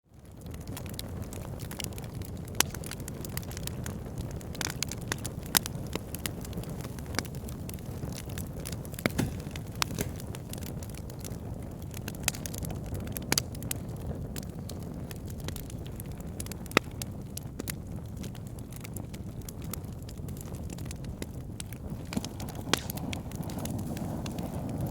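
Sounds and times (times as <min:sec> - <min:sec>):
wood fire crackling and popping: 0:00.1 - 0:24.9.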